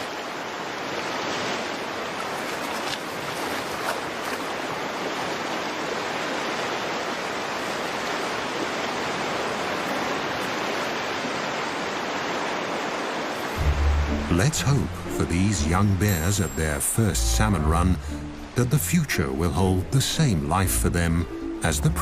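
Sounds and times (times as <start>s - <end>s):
rushing stream water: 0.0s - 22.0s.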